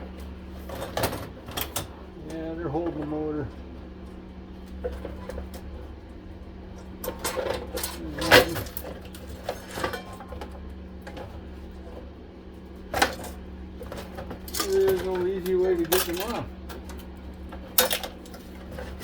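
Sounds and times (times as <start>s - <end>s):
wood stove blower humming: 0.0s - 19.0s.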